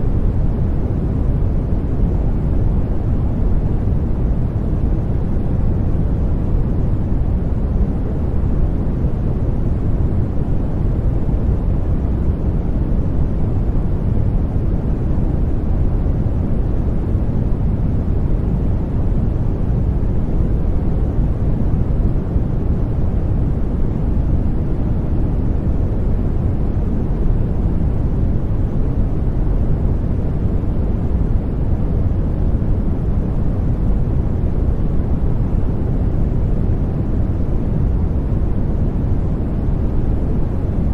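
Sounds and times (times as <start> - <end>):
low rumbling sleep noise: 0.0 - 40.9.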